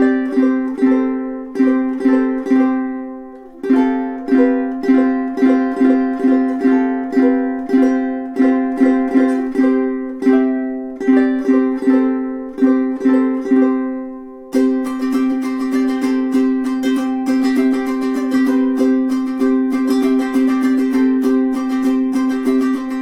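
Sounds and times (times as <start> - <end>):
ukulele plucked notes and chords: 0.0 - 23.0.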